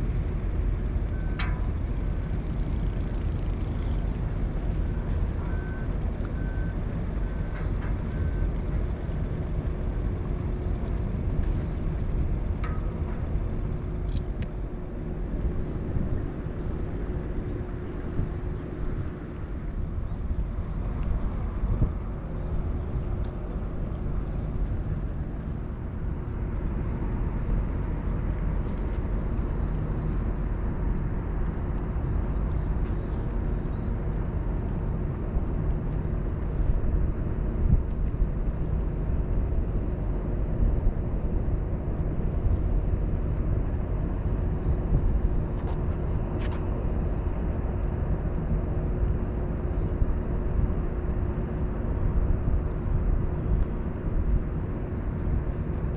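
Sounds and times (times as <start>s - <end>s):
wind buffeting microphone: 8.5s - 55.9s.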